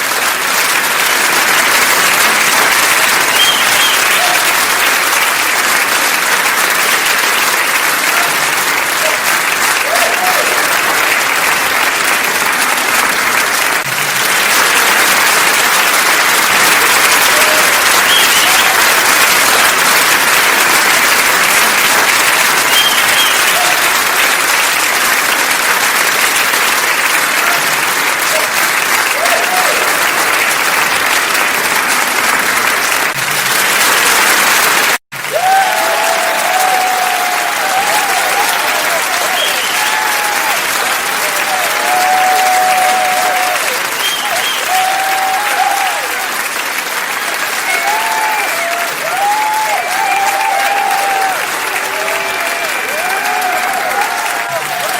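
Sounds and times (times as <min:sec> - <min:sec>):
crowd applauding: 0:00.0 - 0:54.9
people cheering: 0:00.0 - 0:54.9.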